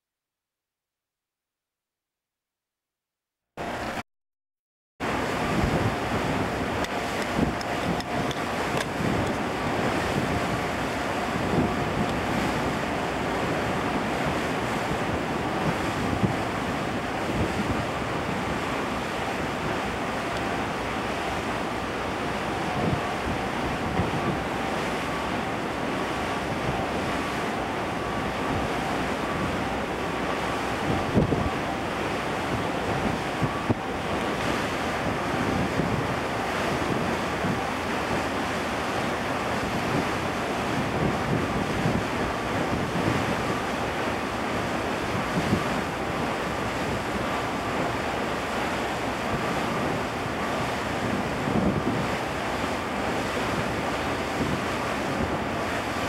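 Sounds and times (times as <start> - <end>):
choppy sea wash: 3.6 - 4.0, 5.0 - 56.0
wind buffeting microphone: 5.0 - 56.0.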